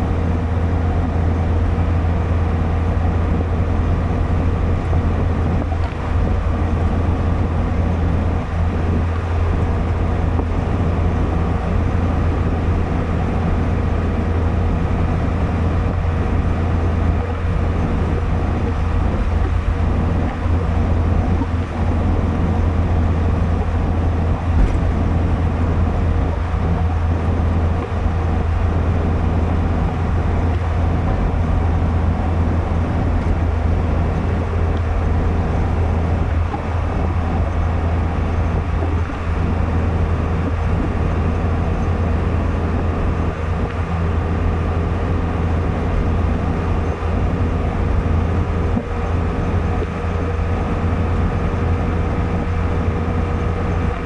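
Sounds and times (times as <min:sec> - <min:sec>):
car engine and tyre drone: 0:00.0 - 0:54.0.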